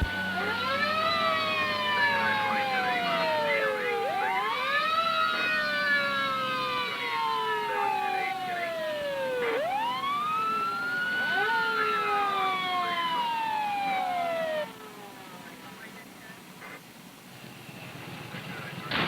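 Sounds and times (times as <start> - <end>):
emergency vehicle sirens wailing: 0.0 - 16.0.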